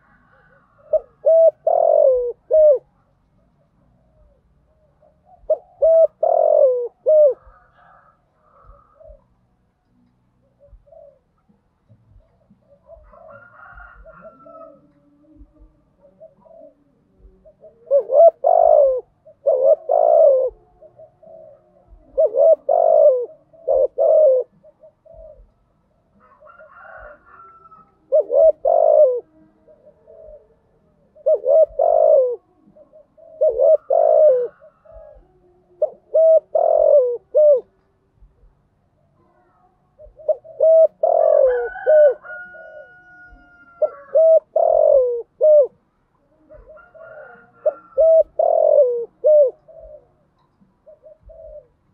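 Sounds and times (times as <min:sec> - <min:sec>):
dove cooing: 0:00.0 - 0:09.5, 0:10.3 - 0:51.9.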